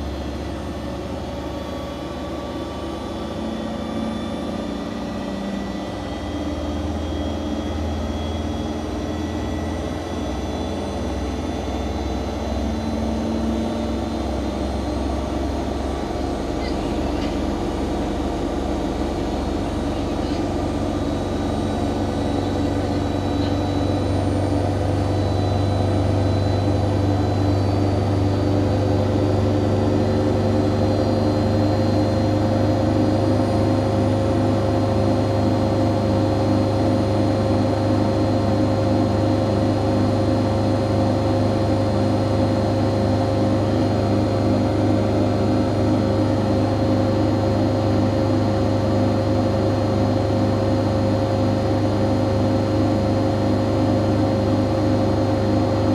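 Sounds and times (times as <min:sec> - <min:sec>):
washing machine motor whine: 0:00.0 - 0:55.9.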